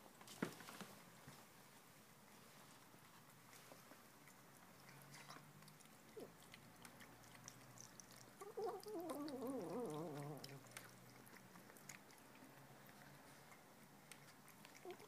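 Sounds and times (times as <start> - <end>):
kitten chewing and licking: 1.0 - 15.0.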